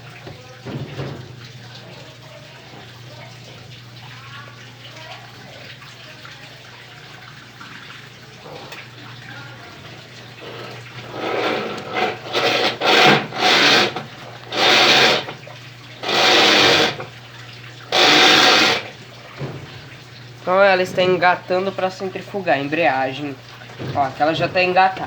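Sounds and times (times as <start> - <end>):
washing machine motor hum: 0.0 - 25.0
water sloshing in tub: 0.0 - 25.0.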